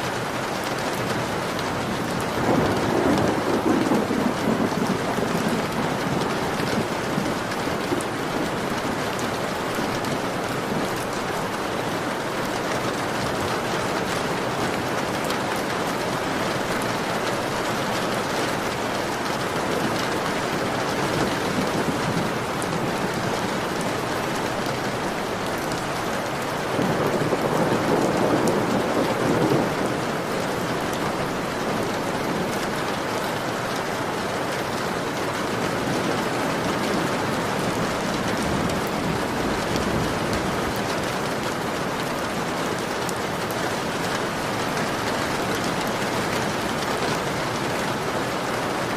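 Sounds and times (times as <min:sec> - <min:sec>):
heavy rain against window: 0:00.0 - 0:48.9.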